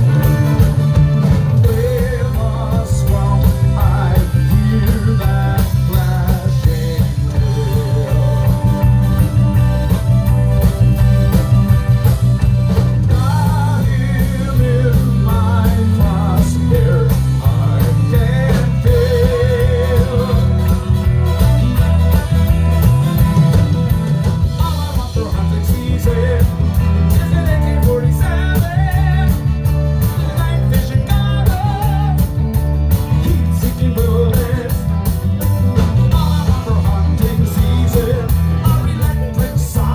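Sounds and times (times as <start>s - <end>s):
live reggae band playing: 0.0s - 39.9s.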